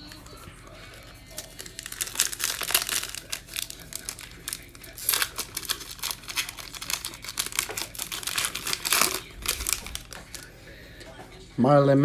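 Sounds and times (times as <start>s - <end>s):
foil wrapper crinkling and tearing: 0.0s - 10.5s.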